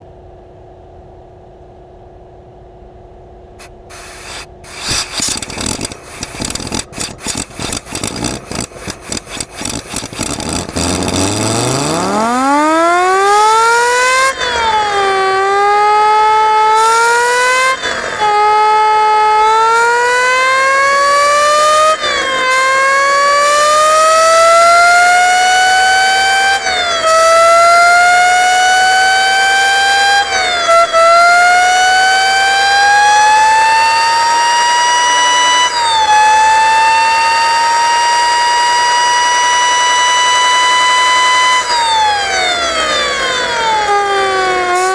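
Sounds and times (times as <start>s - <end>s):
racing engine whine shifting gears: 3.6s - 44.9s.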